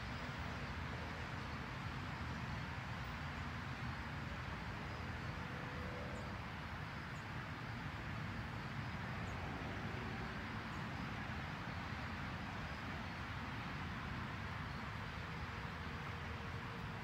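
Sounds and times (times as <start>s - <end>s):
outdoor rumble with hiss: 0.0s - 17.0s.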